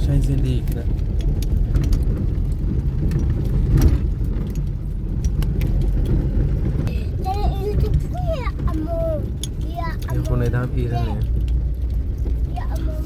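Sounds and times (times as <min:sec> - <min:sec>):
car engine and road noise: 0:00.0 - 0:13.0
light clicks and rattles: 0:00.0 - 0:13.0.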